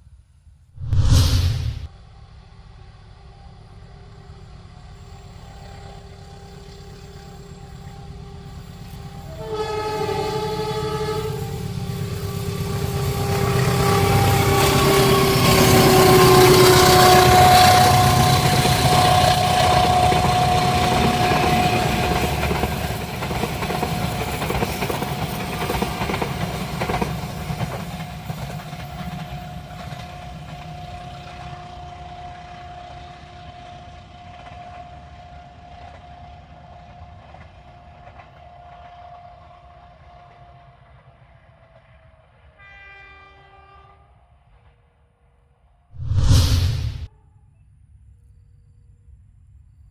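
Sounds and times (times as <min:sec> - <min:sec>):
passenger train passing: 0:00.8 - 0:41.6.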